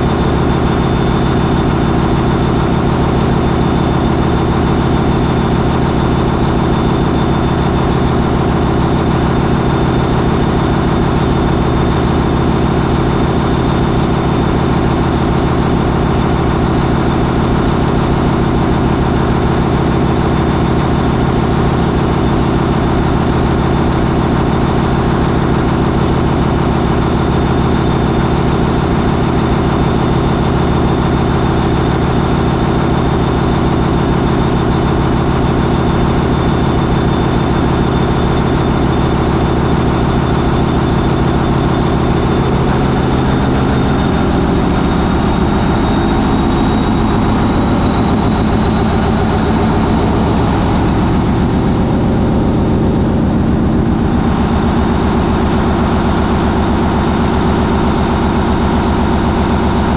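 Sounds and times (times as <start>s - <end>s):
marine diesel engine high whine: 0.0s - 59.9s.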